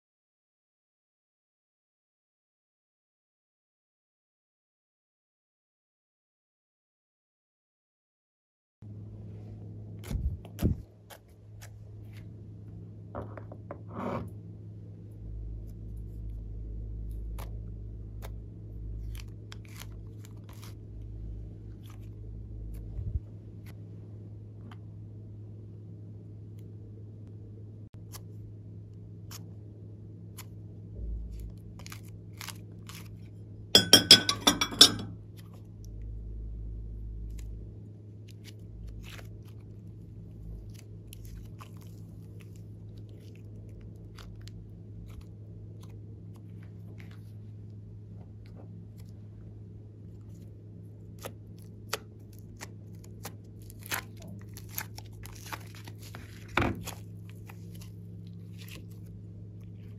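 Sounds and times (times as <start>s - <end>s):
steady low hum: 8.8s - 59.9s.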